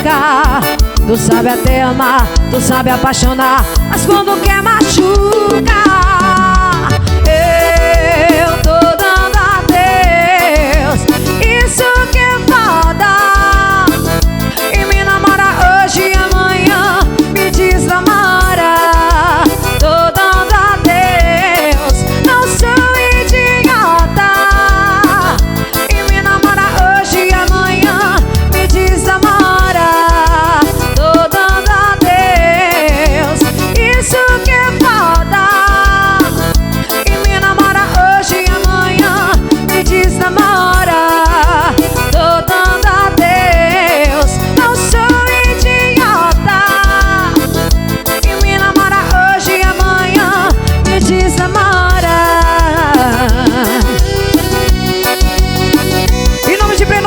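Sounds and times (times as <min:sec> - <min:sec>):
band music with wavering melody: 0:00.0 - 0:57.0
bass drum beat: 0:00.0 - 0:57.0.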